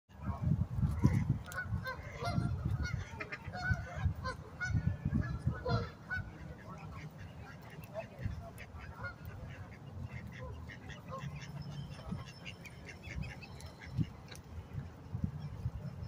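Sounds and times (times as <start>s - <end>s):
geese honking: 1.0s - 14.4s.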